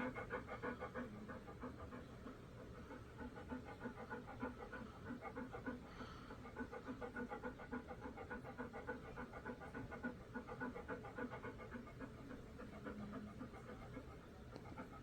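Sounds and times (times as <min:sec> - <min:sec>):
dog panting rapidly: 0:00.0 - 0:15.0.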